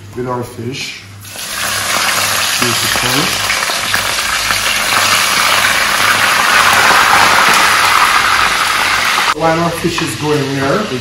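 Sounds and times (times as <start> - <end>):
fish sizzling in hot oil: 1.2 - 11.0.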